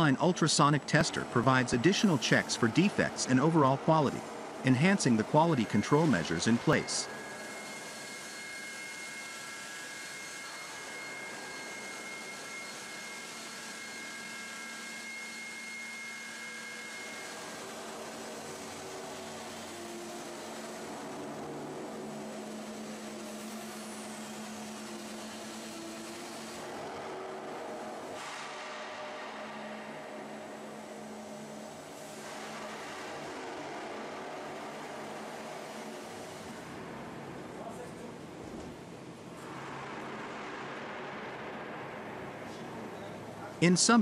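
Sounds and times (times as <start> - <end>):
high machine whines: 0.0 - 37.8
mill machinery hum and hiss: 0.0 - 44.0.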